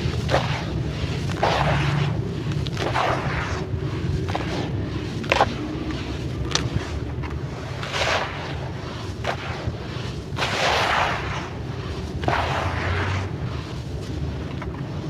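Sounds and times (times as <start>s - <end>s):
sand clay chunks crunching: 0.0s - 15.0s.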